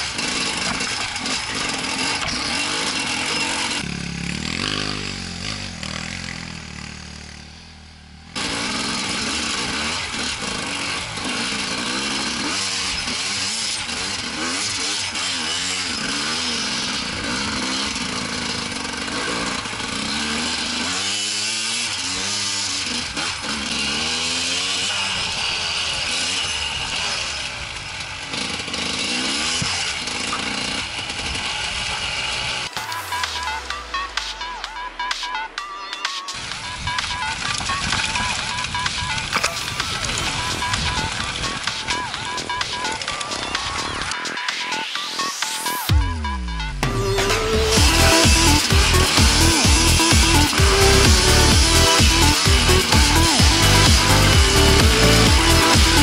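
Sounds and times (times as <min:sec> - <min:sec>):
motorcycle engine revving: 0:00.0 - 0:35.6, 0:36.3 - 0:56.0.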